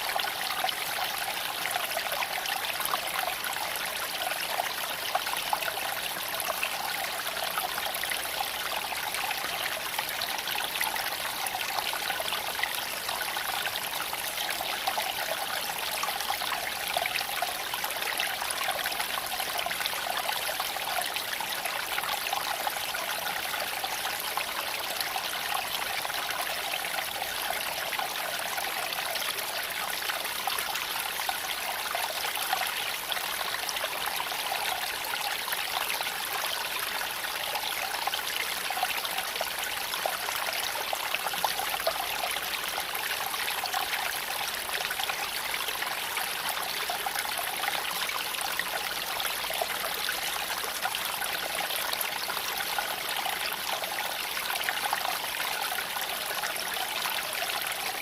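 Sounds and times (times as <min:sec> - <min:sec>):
creek water babbling over stones: 0:00.0 - 0:58.0.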